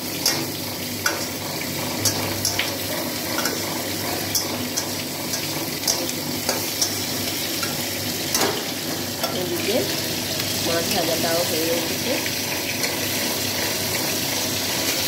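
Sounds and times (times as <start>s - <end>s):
potatoes sizzling in oil: 0.0s - 15.0s.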